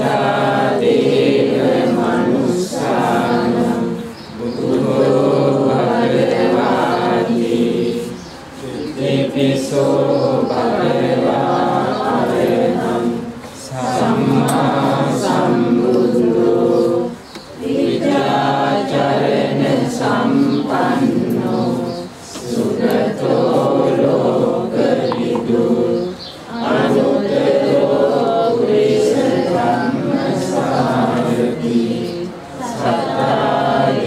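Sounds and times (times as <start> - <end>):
group of voices chanting: 0.0 - 34.0.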